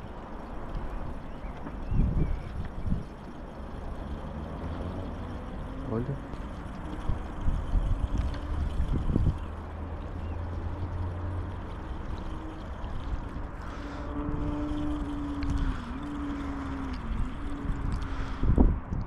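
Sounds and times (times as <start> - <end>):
motorboat engine running: 0.0 - 18.9.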